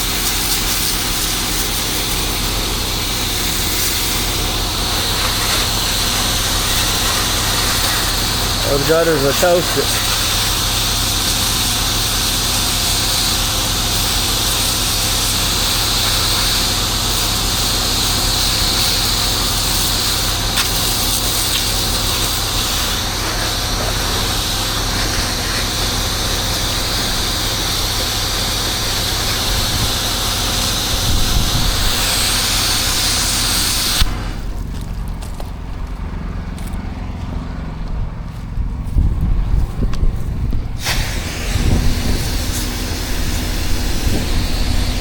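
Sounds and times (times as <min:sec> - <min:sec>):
water spraying hiss: 0:00.0 - 0:34.6, 0:40.8 - 0:45.0
pressure washer engine running: 0:00.0 - 0:45.0.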